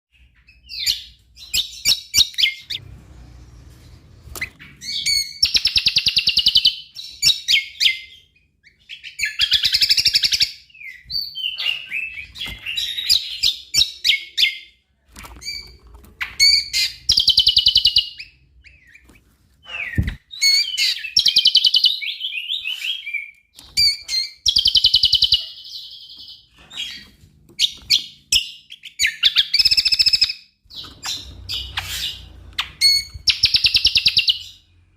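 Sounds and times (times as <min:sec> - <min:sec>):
sharp bird chirps: 0:00.1 - 0:14.4, 0:15.6 - 0:34.7.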